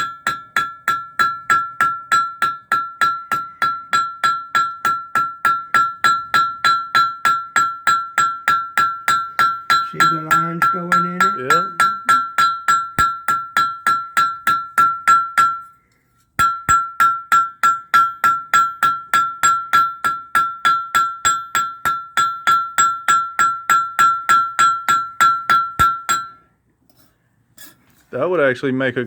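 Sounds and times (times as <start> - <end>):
hammer striking hot iron on anvil: 0.0 - 15.7, 16.4 - 26.4.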